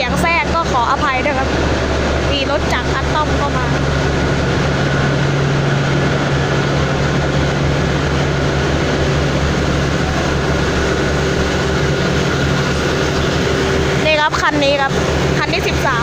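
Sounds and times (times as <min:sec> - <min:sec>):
diesel train engine droning: 0:00.0 - 0:16.0.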